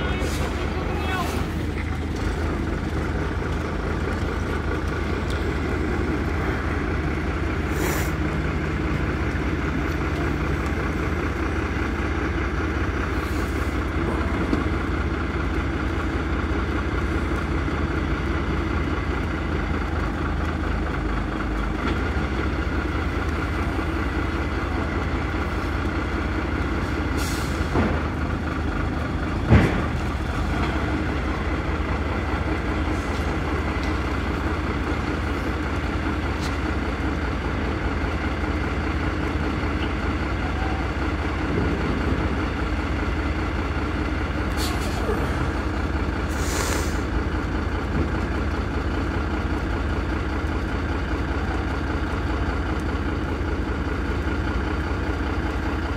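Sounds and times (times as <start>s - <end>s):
diesel lorry engine running: 0.0s - 55.9s.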